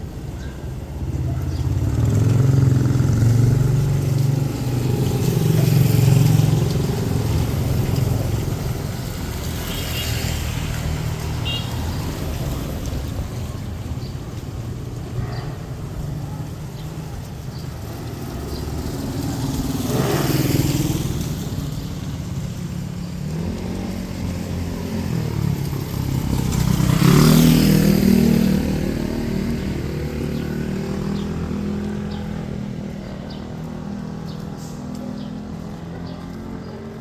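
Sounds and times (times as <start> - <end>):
vehicles passing by: 0.0 - 37.0.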